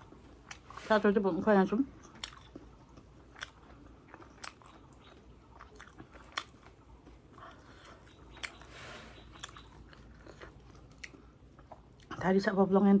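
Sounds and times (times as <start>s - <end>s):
person chewing crisp food: 0.0s - 0.9s, 1.9s - 12.1s.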